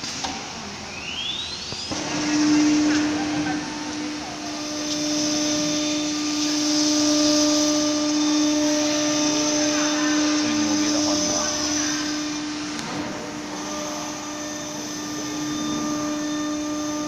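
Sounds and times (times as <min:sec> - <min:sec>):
air extraction hiss: 0:00.0 - 0:17.0
router spindle whine: 0:00.6 - 0:17.0.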